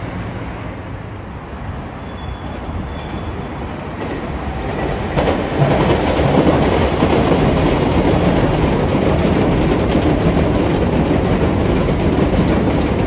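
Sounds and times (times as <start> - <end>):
trains passing: 0.0 - 13.0
wheel rumble and rail clatter: 0.0 - 13.0.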